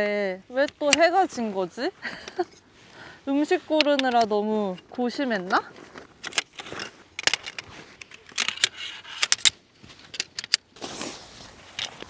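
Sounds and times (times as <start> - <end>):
metal tent poles clinking: 0.0 - 2.7, 3.3 - 10.8
soft rustle: 0.5 - 12.0.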